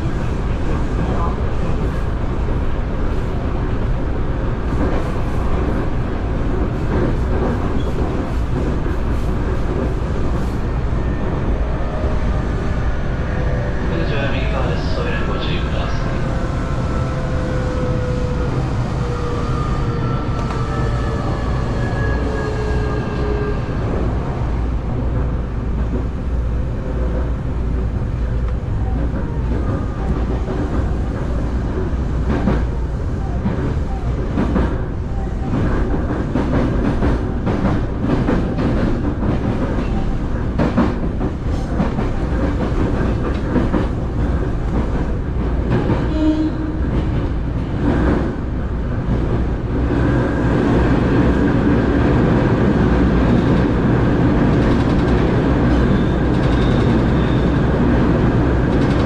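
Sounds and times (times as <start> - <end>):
continuous train rumble: 0.0 - 59.0.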